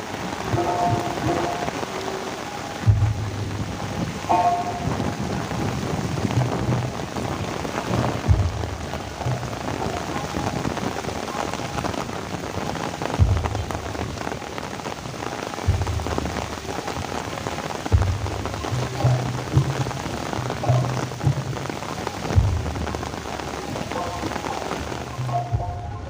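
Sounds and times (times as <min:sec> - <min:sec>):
heavy rain falling: 0:00.0 - 0:26.0
low thumps: 0:02.8 - 0:11.1, 0:12.5 - 0:26.0.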